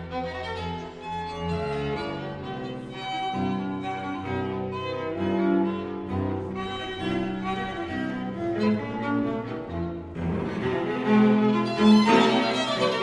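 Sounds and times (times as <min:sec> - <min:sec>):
violin and cello music: 0:00.0 - 0:13.0.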